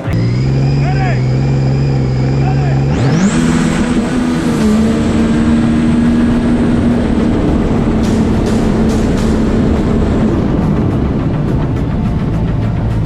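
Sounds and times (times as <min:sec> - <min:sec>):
jet ski engine revving: 0:00.0 - 0:13.0.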